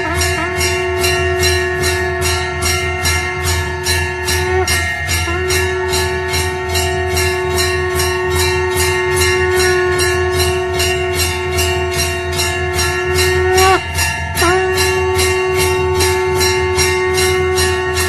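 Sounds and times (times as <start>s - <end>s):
conch shell blown note: 0.0s - 18.0s
temple bells rung rapidly: 0.0s - 18.0s.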